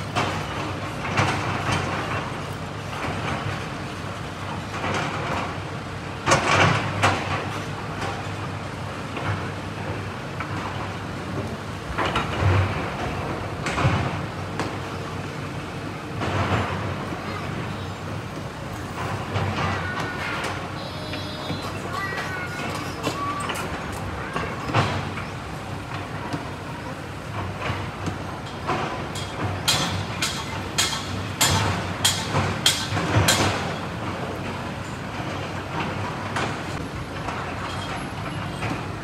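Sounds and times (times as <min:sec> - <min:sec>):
diesel engines running: 0:00.0 - 0:39.0.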